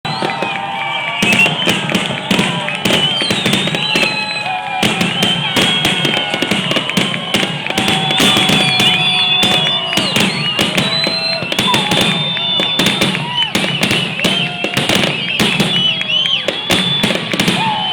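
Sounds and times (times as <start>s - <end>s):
fireworks bangs and crackles: 0.0s - 17.9s
fireworks whistling: 0.0s - 17.9s.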